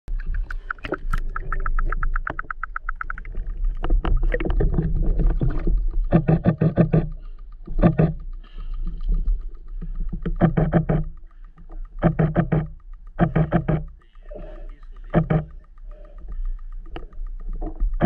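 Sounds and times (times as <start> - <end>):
rapid even ticks: 0.1 - 18.0
water sloshing and splashing: 0.1 - 18.0.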